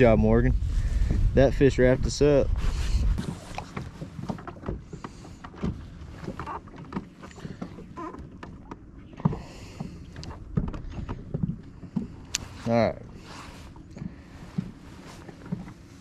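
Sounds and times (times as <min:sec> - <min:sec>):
water and wind rumble: 0:00.0 - 0:16.0.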